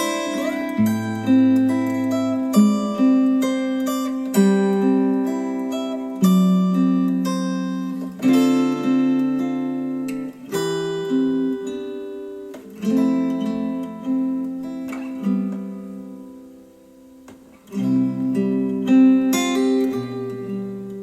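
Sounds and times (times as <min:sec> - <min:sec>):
strummed acoustic guitar chords: 0:00.0 - 0:21.0.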